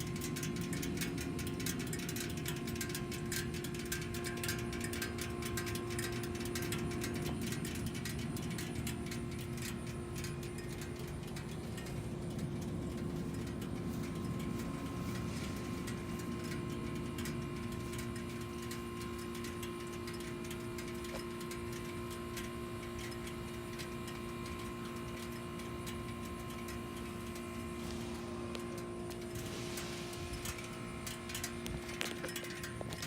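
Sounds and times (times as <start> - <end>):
fast even ticking: 0.0 - 33.0
low mechanical rumble: 0.0 - 33.0
steady hum: 0.0 - 33.0.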